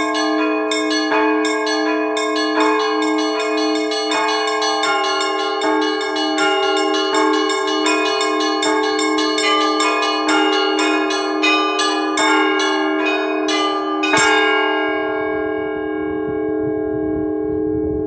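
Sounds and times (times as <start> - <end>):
loud bell stroke: 0.0 - 15.2
hum of large bells: 0.0 - 18.0
small church bells ringing: 0.0 - 18.0.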